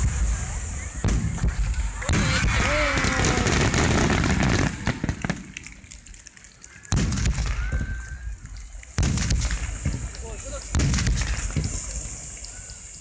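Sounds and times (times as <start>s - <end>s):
fireworks bursting with booms: 0.0s - 5.9s, 6.9s - 12.8s.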